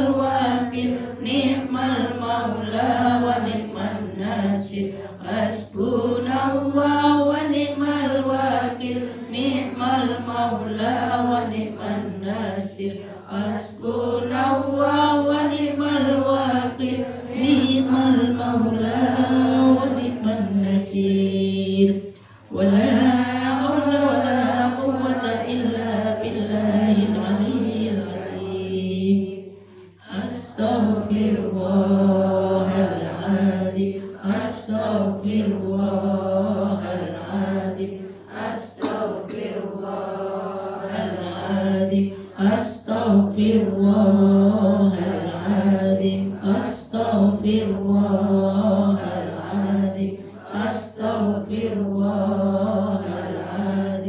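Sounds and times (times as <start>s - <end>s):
woman chanting prayers over loudspeaker: 0.0s - 54.0s.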